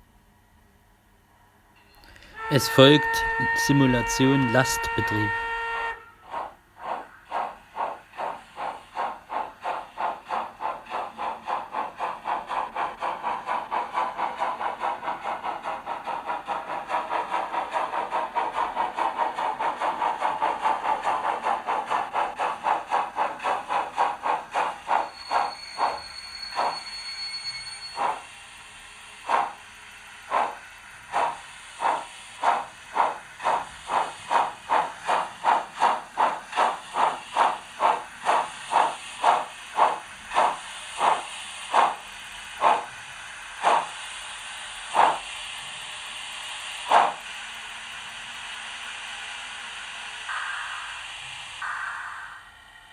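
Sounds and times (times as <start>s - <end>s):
steam locomotive exhaust chuffs: 2.0s - 52.9s.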